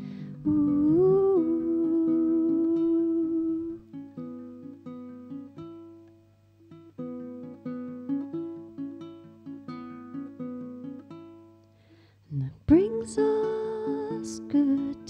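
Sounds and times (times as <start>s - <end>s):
ukulele picked melody: 0.0s - 11.6s, 12.7s - 15.0s.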